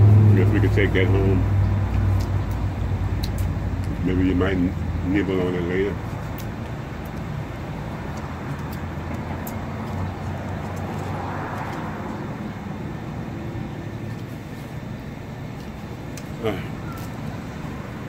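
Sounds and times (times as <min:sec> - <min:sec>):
road traffic: 0:00.0 - 0:18.0
vehicle passing: 0:00.0 - 0:18.0.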